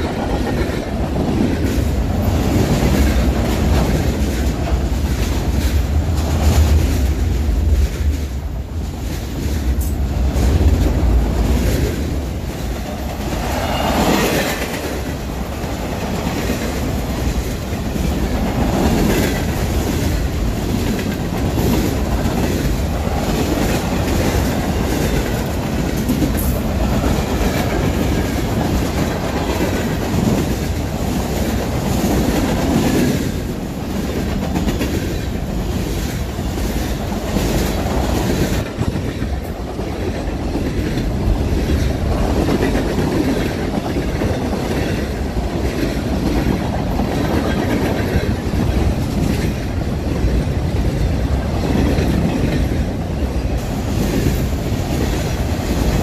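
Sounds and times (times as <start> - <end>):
steel wheels rumbling on rail: 0.0 - 56.0
wheels clicking over rail joints: 0.0 - 56.0.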